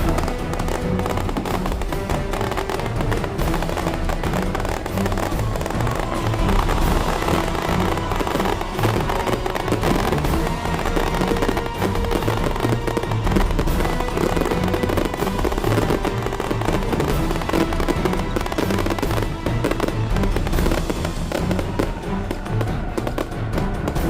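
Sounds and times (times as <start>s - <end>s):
fireworks crackling: 0.0s - 24.0s
loud music: 0.0s - 24.0s.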